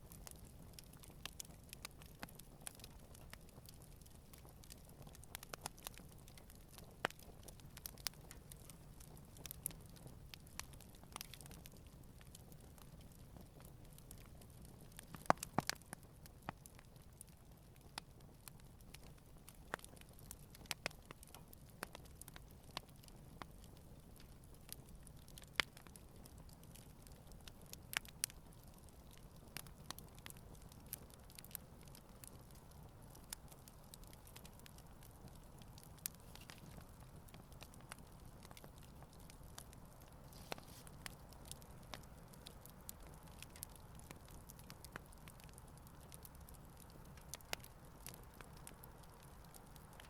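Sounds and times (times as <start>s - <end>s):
campfire crackling and popping: 0.0s - 50.0s
low rumble of flames: 0.0s - 50.0s.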